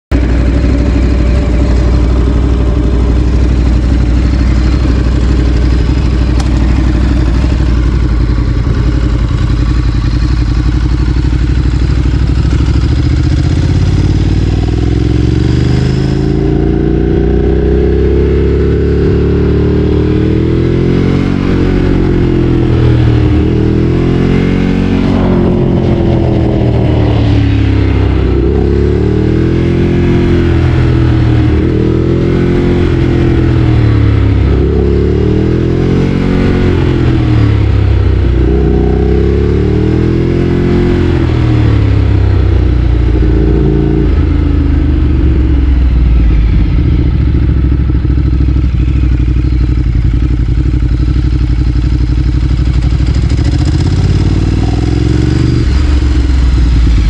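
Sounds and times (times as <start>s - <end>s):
motorcycle engine revving: 0.1s - 57.0s.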